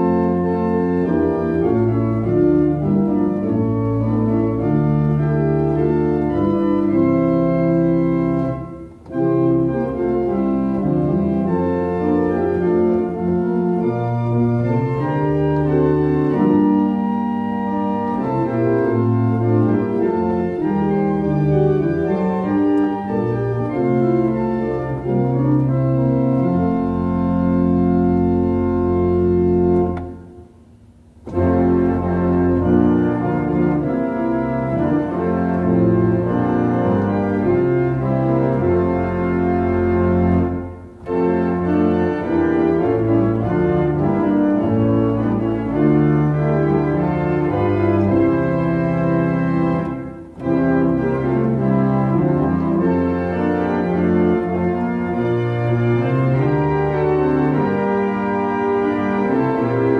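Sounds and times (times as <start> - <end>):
church organ playing a hymn: 0.0 - 59.9.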